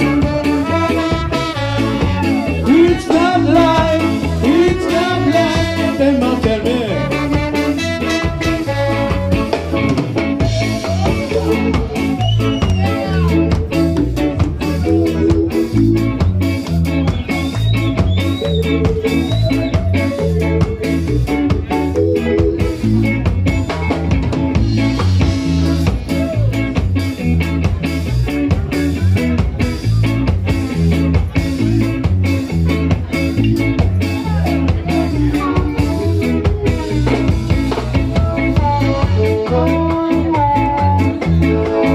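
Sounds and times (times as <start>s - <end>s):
live ska band playing: 0.0s - 41.9s.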